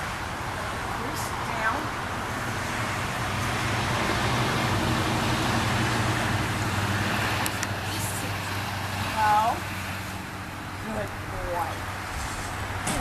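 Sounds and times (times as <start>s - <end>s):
passing vehicle engine and tyres: 0.0s - 13.0s.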